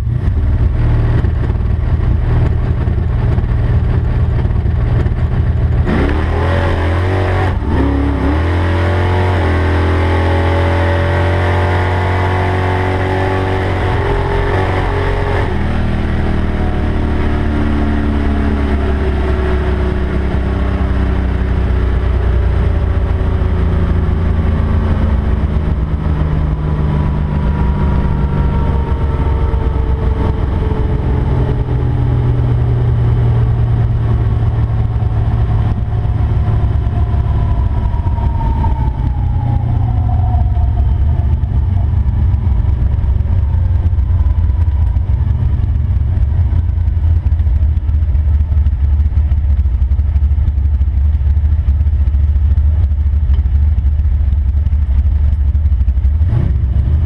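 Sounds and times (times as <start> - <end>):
car engine running low: 0.0 - 57.0.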